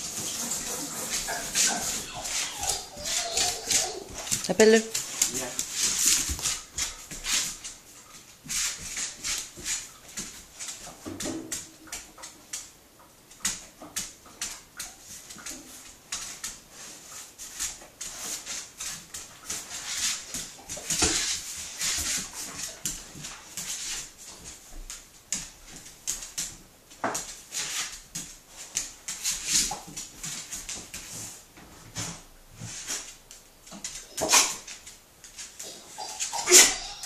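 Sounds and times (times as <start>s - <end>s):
dog claws clicking on tile floor: 0.0s - 31.3s, 32.8s - 37.0s.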